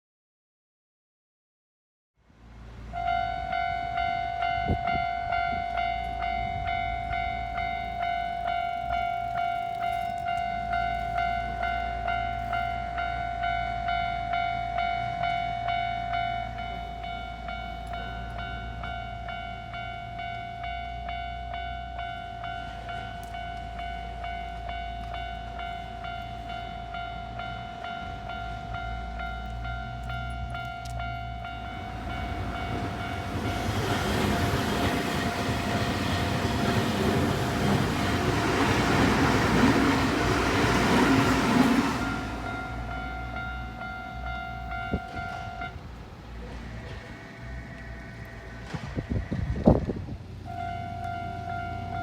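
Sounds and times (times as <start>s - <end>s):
low rumble of traffic: 2.2s - 52.0s
level crossing alarm bell: 3.0s - 45.9s, 50.5s - 52.0s.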